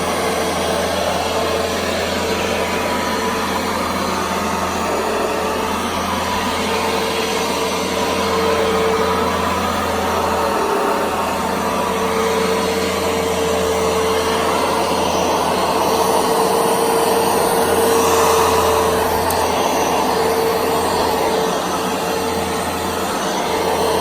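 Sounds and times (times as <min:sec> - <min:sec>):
carpet shampooer motor whine: 0:00.0 - 0:24.0.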